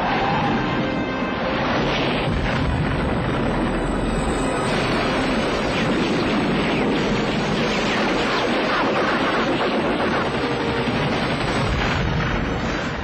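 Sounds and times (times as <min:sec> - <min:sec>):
film music: 0:00.0 - 0:13.0.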